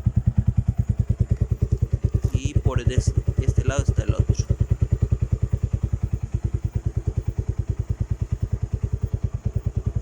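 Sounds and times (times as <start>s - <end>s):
motorcycle idling: 0.0s - 10.0s.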